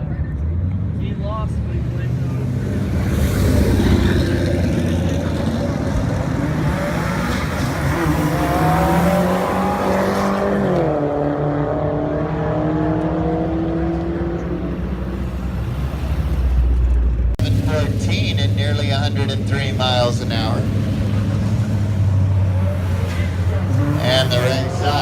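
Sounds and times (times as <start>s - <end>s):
drag racing car accelerating: 0.2s - 25.0s.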